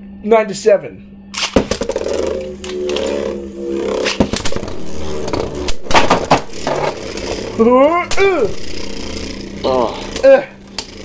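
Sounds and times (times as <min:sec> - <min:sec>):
spinning tops whirring: 0:01.4 - 0:11.0.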